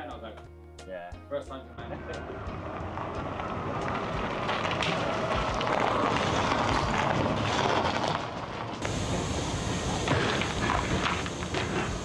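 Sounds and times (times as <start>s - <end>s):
car road noise: 1.8s - 12.0s.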